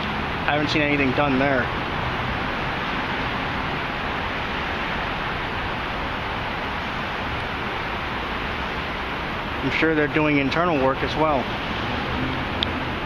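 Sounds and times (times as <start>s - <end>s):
city ambience rushing noise: 0.0s - 13.0s.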